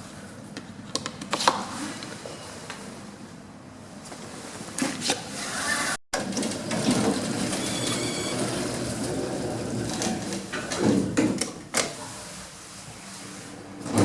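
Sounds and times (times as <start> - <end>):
goods lift mechanical hum: 0.0 - 14.0.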